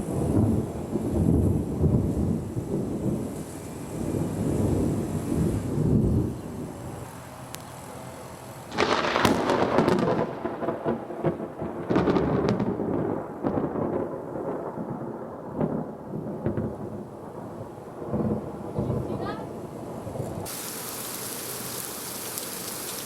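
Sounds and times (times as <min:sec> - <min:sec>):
thunder crack and rumble: 0:00.0 - 0:06.8, 0:08.7 - 0:20.5.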